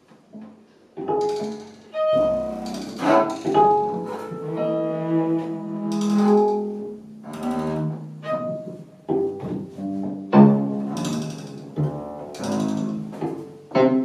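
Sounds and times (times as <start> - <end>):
cello and double bass bowed: 1.1 - 14.0.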